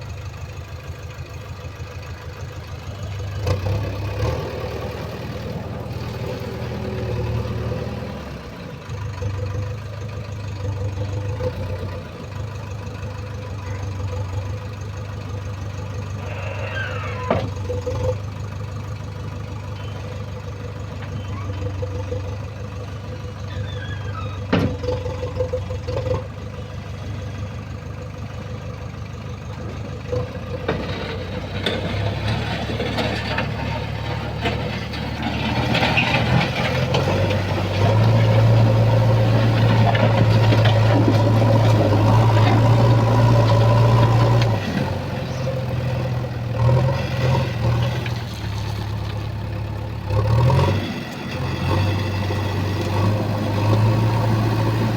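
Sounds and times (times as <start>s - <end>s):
heavy machine engine running: 0.1s - 54.9s.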